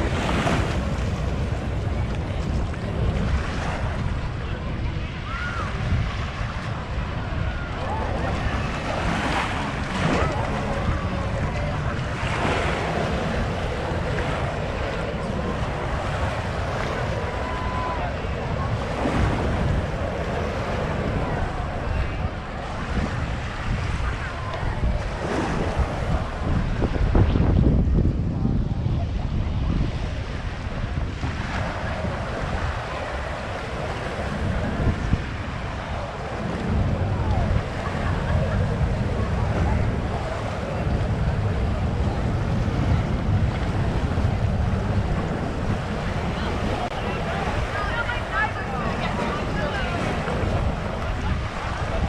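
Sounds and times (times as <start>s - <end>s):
waves on sandy beach: 0.0s - 52.0s
wind buffeting microphone: 0.0s - 52.0s.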